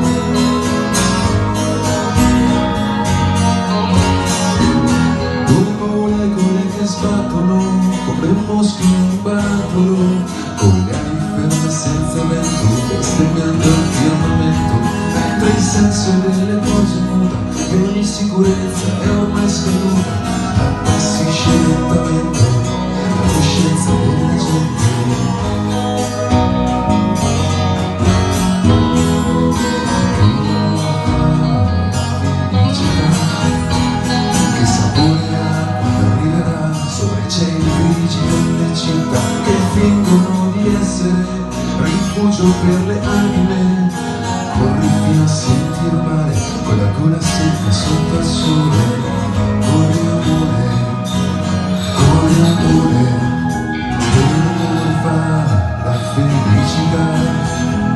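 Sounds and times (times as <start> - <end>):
electric guitar: 0.0 - 57.9
strummed acoustic guitar: 0.0 - 57.9.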